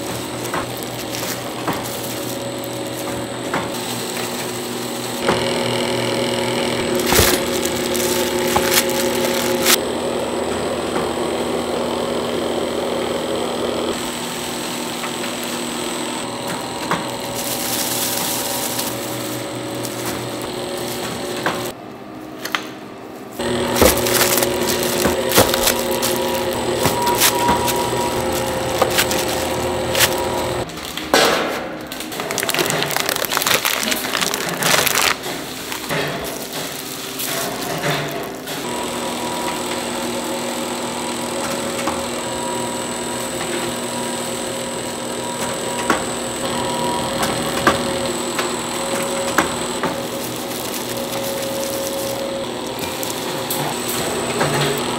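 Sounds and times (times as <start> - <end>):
electric mixer motor humming: 0.0 - 21.8, 23.4 - 30.7, 32.2 - 54.9.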